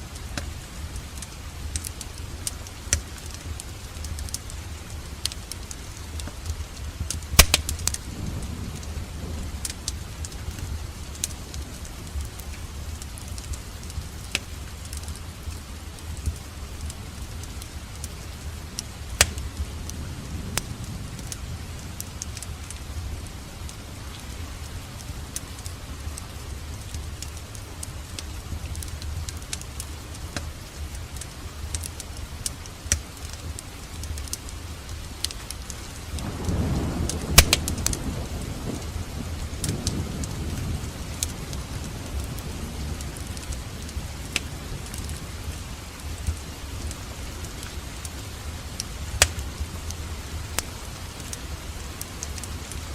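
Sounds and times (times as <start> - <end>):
wood fire crackling and popping: 0.1 - 8.2, 8.8 - 52.9.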